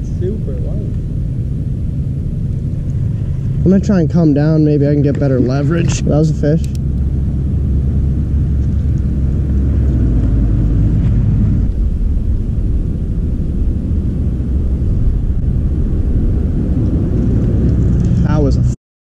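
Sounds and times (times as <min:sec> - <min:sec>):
steady low rumble: 0:00.0 - 0:18.8.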